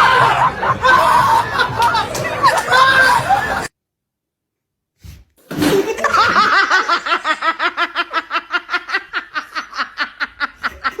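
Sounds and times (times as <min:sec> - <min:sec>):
laughter-like pulses: 0:00.0 - 0:03.7, 0:05.6 - 0:11.0.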